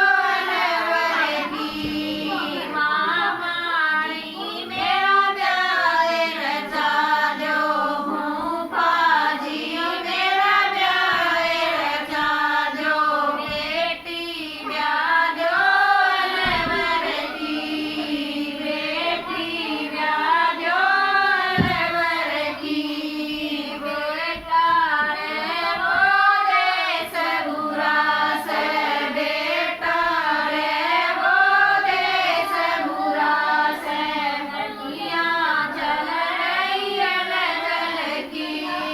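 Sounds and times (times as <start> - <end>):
women singing folk song: 0.0 - 38.9.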